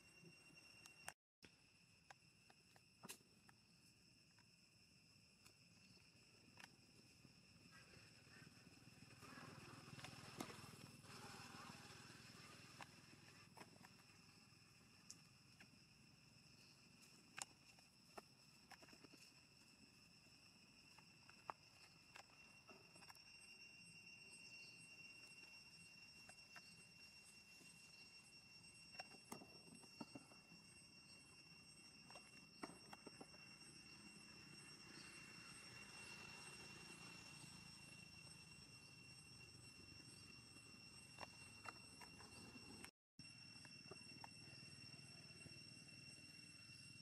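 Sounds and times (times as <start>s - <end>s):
high-pitched insect drone: 0.0s - 47.0s.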